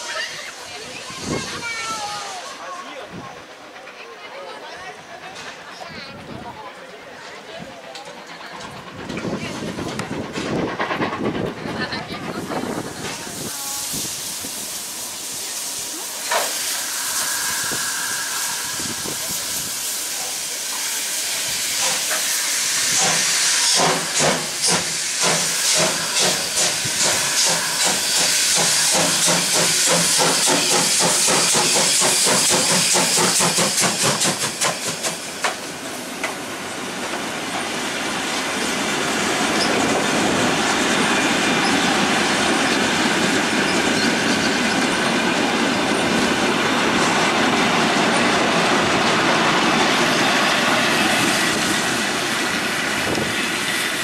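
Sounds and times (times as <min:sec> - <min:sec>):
steam hissing: 0:00.0 - 0:03.5, 0:08.6 - 0:54.0
rushing train noise: 0:00.0 - 0:54.0
steam locomotive exhaust chuffs: 0:08.2 - 0:54.0.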